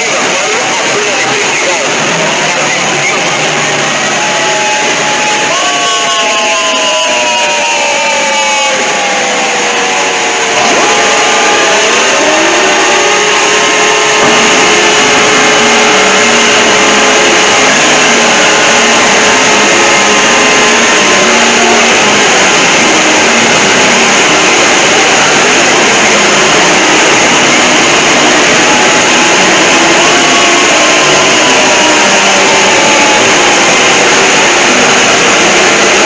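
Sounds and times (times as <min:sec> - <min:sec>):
distorted alarm tones: 0:00.0 - 0:36.0
falling pitch glides: 0:00.0 - 0:36.0.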